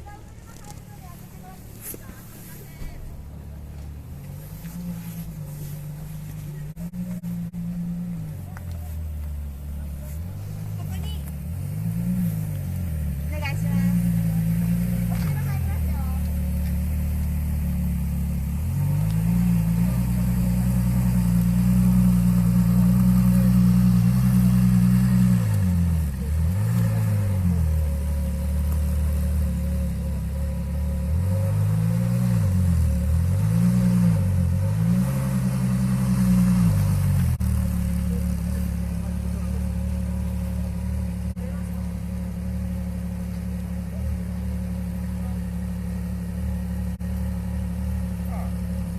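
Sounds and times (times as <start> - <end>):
sports car engine revving: 0.0 - 48.9.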